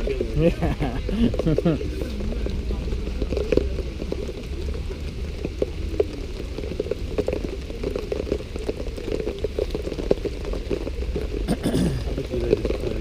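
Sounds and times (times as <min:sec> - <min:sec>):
rain drops ticking: 0:00.0 - 0:13.0.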